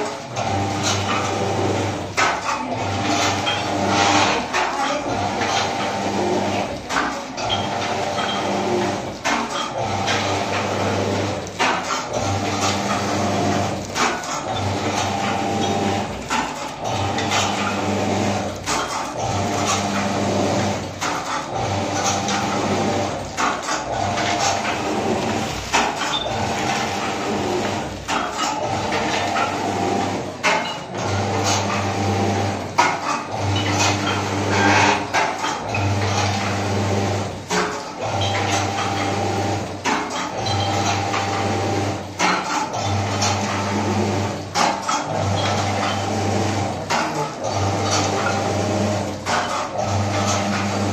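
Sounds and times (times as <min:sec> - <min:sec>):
packing machine motor hum: 0:00.0 - 0:50.9.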